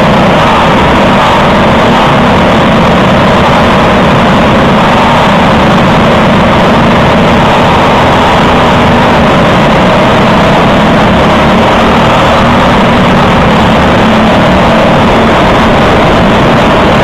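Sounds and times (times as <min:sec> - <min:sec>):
kart engine running loud: 0:00.0 - 0:17.0
surrounding kart engines: 0:00.0 - 0:17.0.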